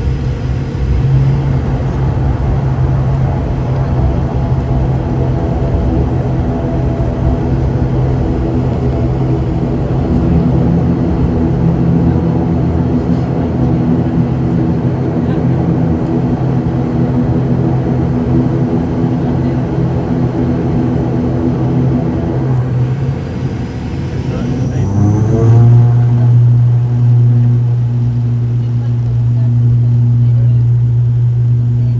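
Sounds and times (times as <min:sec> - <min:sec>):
low propeller tones: 0:00.0 - 0:31.9
turboprop engines droning: 0:00.0 - 0:31.9.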